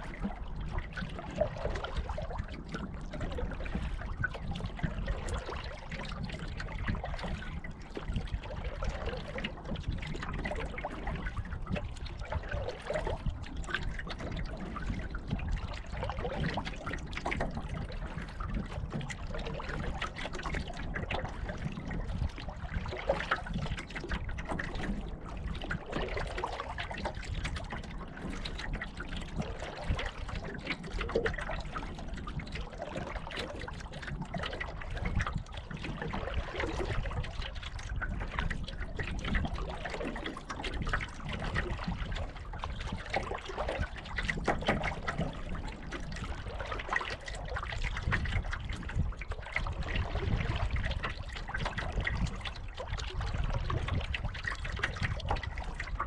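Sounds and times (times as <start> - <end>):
small waves lapping against hull: 0.0 - 56.0.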